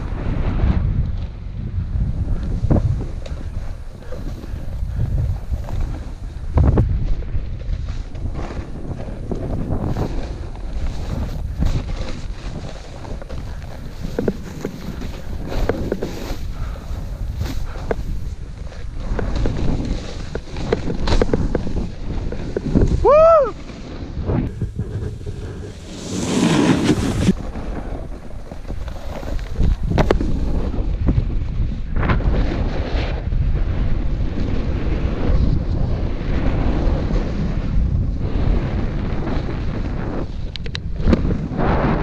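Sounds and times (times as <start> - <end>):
snowboard scraping over snow: 0.0 - 42.0
wind buffeting microphone: 0.0 - 42.0.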